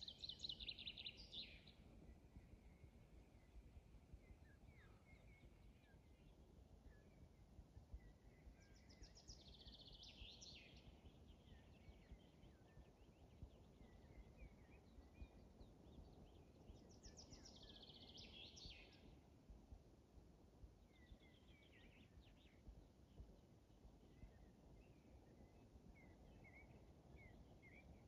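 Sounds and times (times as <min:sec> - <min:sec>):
soft bird chirps: 0:00.0 - 0:19.2, 0:24.0 - 0:28.0
low background noise: 0:00.0 - 0:28.0.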